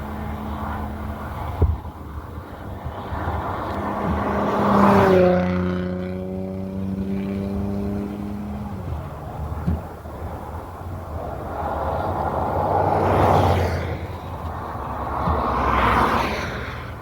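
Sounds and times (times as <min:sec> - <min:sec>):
low engine hum: 0:00.0 - 0:17.0
vehicle passing by: 0:00.0 - 0:17.0.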